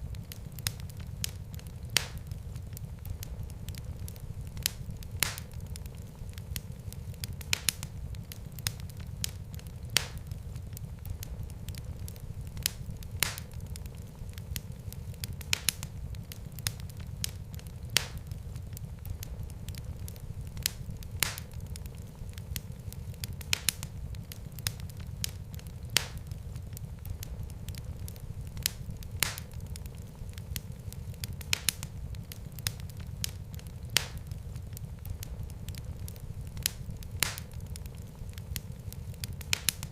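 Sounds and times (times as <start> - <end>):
fire crackling and popping: 0.0 - 39.9
fire flames rumbling: 0.0 - 39.9.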